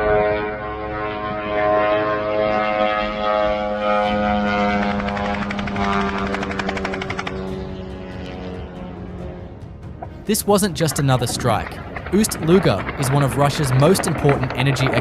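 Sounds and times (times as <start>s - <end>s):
propeller drone engine buzzing: 0.0s - 15.0s.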